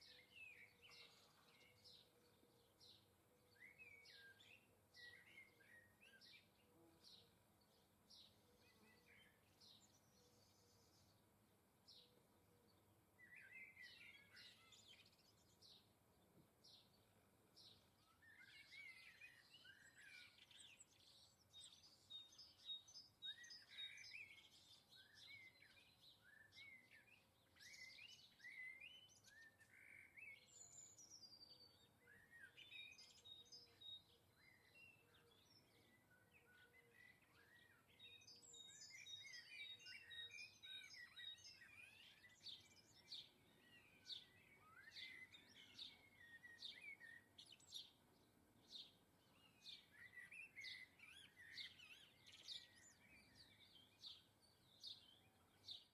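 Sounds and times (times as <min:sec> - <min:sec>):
songbirds chirping and twittering: 0:00.0 - 0:55.9.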